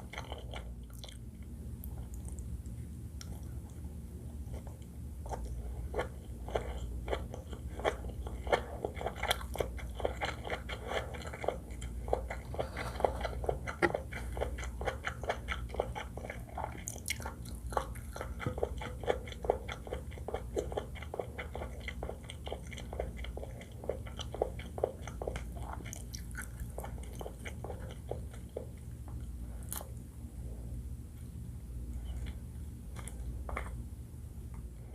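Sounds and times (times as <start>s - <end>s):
wet crunchy chewing: 0.0s - 2.6s, 4.4s - 30.0s, 32.0s - 33.9s.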